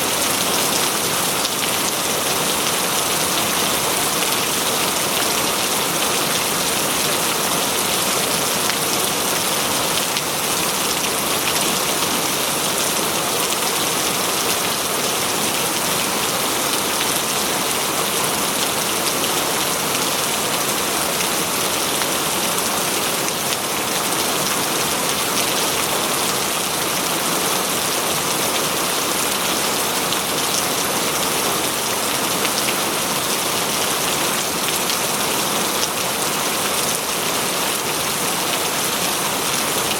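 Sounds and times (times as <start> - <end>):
rain on leaves and ground: 0.0 - 39.9.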